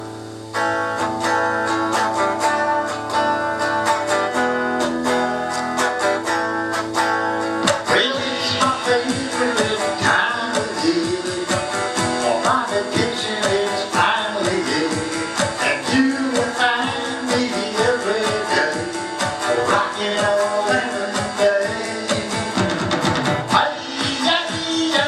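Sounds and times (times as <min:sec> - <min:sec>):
electric drum beat: 0:00.0 - 0:25.0
strummed guitar: 0:00.0 - 0:25.0.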